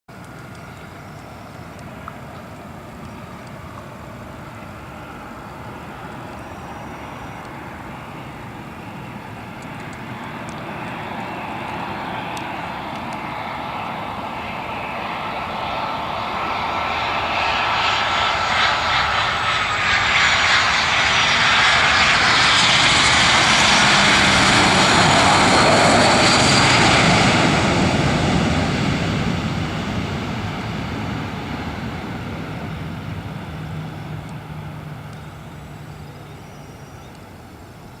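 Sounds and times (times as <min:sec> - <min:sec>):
jet airliner engines landing: 0:00.1 - 0:38.0.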